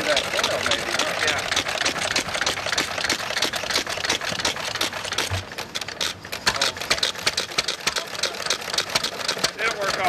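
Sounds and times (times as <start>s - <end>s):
gas engine clattering: 0.0s - 10.0s.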